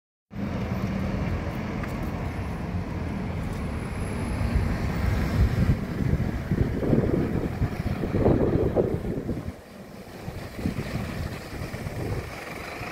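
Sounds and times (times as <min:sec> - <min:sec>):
bus diesel engine rumbling: 0:00.3 - 0:12.9.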